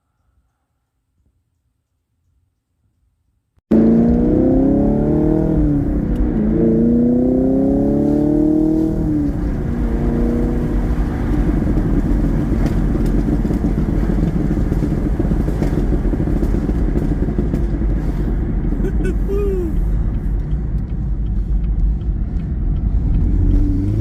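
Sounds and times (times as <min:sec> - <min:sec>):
car engine revving: 0:03.7 - 0:24.0
exhaust crackles: 0:03.7 - 0:24.0.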